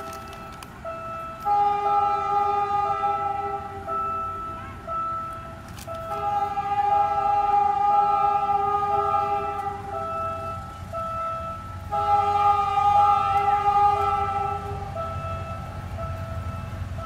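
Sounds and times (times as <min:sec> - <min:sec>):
low rumble of passing train: 0:00.0 - 0:17.0
train horn blasts: 0:00.0 - 0:17.0
two-note alternating tone: 0:00.0 - 0:17.0.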